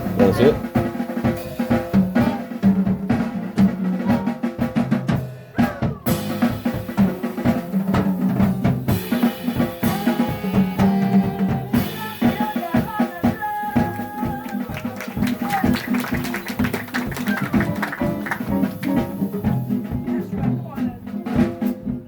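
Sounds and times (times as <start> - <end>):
music with drum beat: 0.0 - 22.0.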